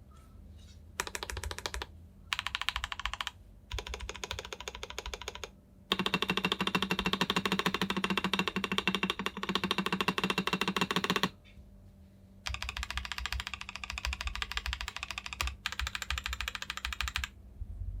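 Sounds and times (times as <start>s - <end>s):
fast typing on mechanical keyboard: 1.0s - 11.3s, 12.5s - 17.3s.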